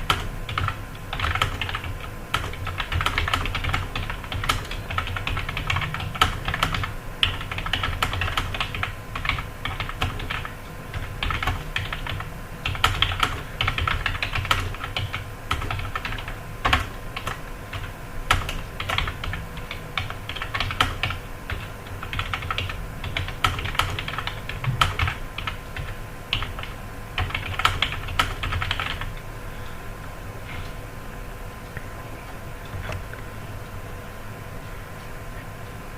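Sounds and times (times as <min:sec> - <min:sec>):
fast typing on keyboard: 0:00.0 - 0:29.2.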